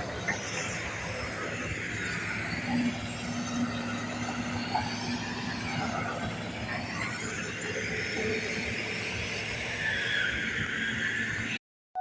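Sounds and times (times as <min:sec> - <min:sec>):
excavator running: 0:00.0 - 0:12.0.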